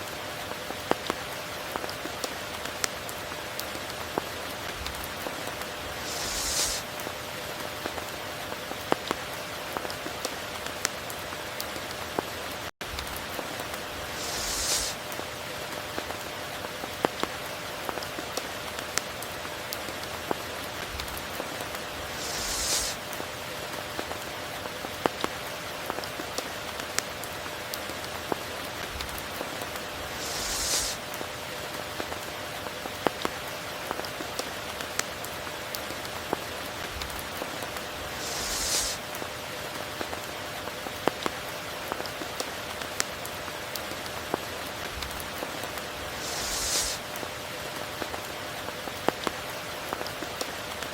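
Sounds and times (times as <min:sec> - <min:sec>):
steady rain hiss: 0:00.0 - 0:50.9
close raindrops hitting: 0:00.1 - 0:50.9.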